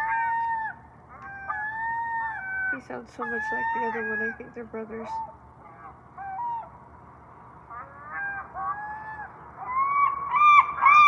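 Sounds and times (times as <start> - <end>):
gulls calling: 0.0 - 11.0.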